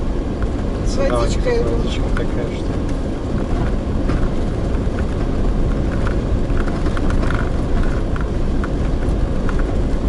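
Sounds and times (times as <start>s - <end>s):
road rumble inside vehicle: 0.0s - 10.0s
light rattles: 0.3s - 10.0s.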